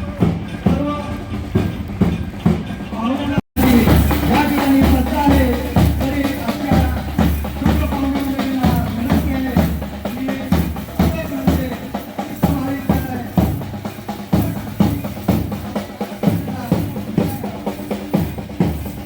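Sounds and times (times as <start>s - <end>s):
music with steady drum beat: 0.0s - 3.0s, 3.6s - 19.0s.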